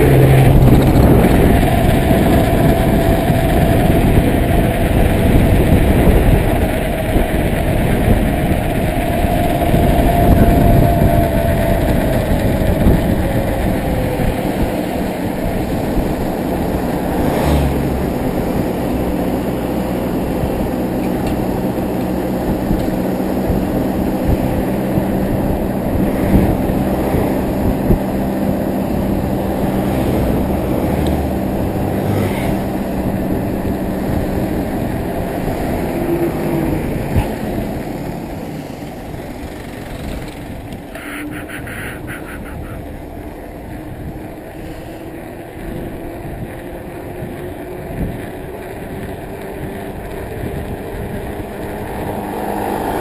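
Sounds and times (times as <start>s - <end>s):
wind rushing over microphone: 0.0s - 41.0s, 41.6s - 53.0s
truck engine hum: 0.0s - 53.0s.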